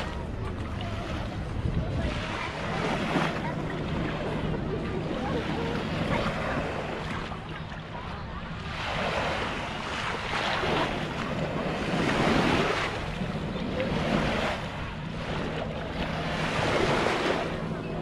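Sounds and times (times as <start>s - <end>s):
small waves on sandy beach: 0.0s - 18.0s
wind rumbling on microphone: 0.0s - 18.0s.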